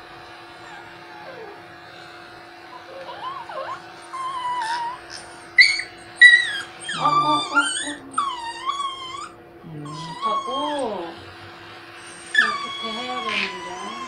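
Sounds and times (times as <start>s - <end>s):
electric pet clipper humming: 0.0s - 14.0s
small dog whining: 0.5s - 11.2s, 12.0s - 14.0s.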